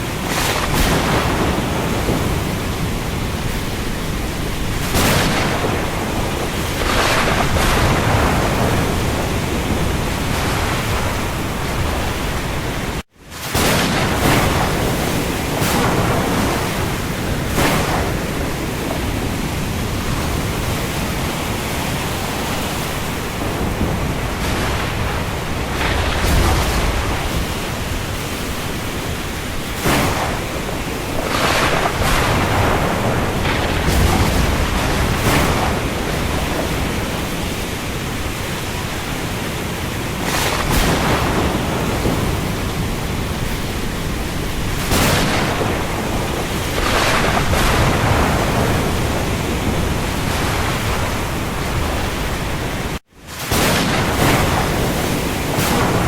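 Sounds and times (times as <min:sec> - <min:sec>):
heavy rain on the sea: 0:00.0 - 0:56.0.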